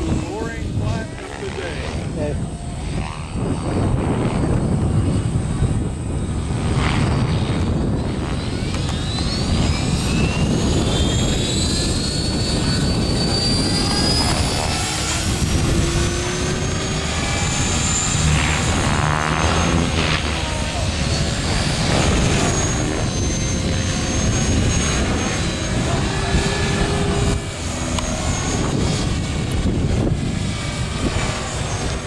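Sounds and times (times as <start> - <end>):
electric model helicopter whine: 0.0 - 32.0
low rumble: 0.0 - 32.0.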